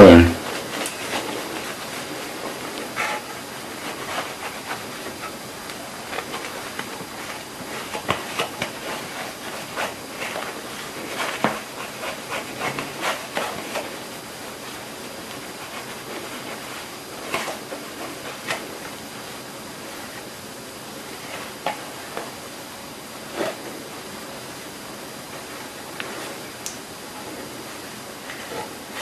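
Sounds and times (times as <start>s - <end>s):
steady hiss: 0.0s - 29.0s
cloth wiping a disc: 0.1s - 29.0s.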